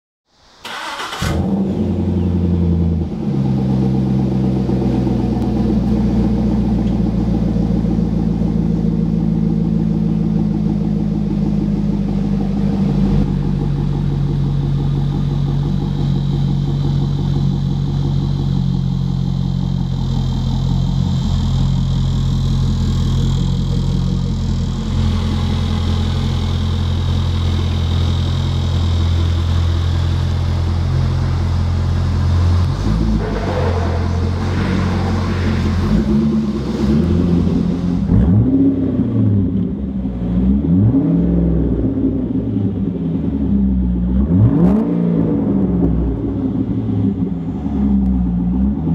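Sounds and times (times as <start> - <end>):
car engine idling: 0.6 - 48.9.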